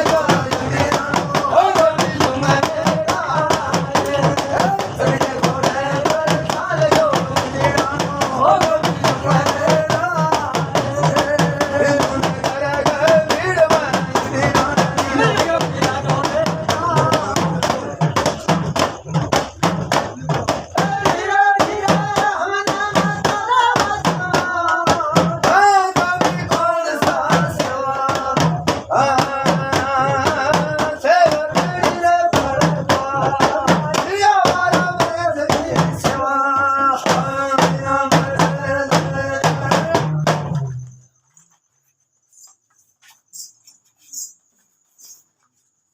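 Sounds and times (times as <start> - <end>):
person singing folk song: 0.0 - 19.1, 20.1 - 40.7.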